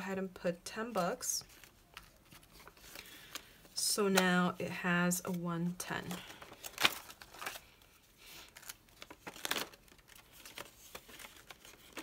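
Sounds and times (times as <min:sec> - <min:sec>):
banknotes rustling: 0:00.7 - 0:12.0.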